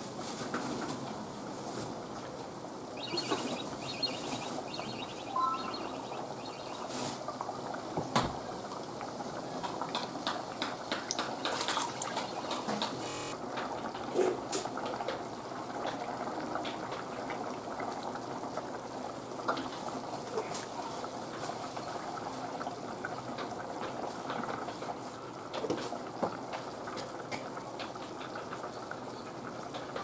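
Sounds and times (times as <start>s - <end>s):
gravy boiling and popping: 0.1s - 30.0s.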